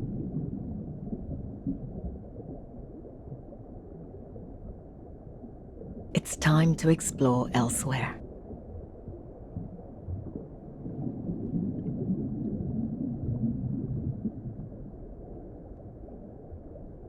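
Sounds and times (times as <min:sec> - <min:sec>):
underwater rumble of moving water: 0:00.0 - 0:06.1, 0:08.2 - 0:17.0.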